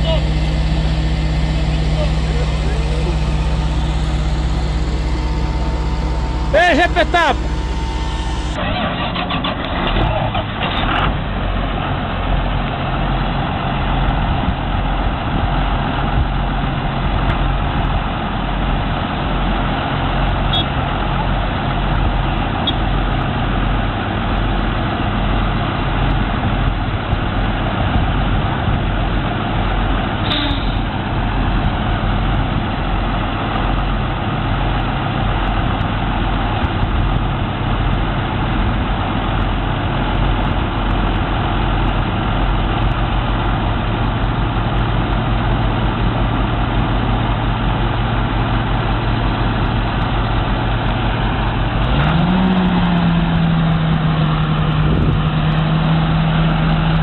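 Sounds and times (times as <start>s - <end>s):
tractor diesel engines running: 0.0s - 57.0s.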